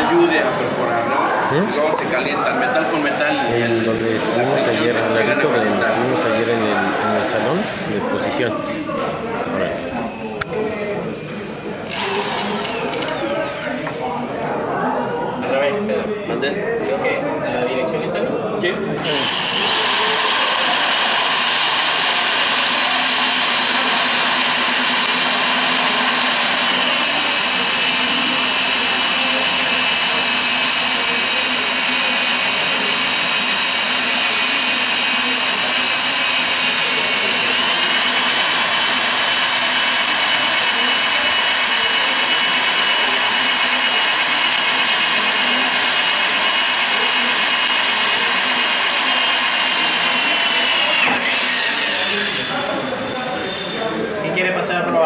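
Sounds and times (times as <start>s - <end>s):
drill boring through metal: 0.0s - 8.5s, 9.6s - 14.4s, 19.0s - 54.1s.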